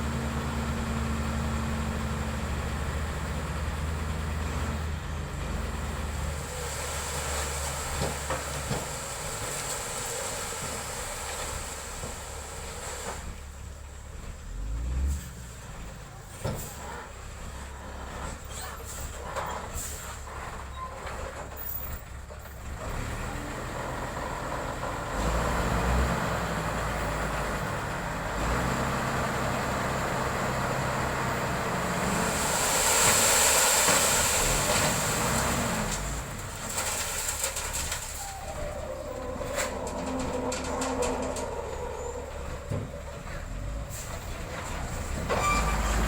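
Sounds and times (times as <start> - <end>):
heavy diesel machinery running: 0.0 - 46.0.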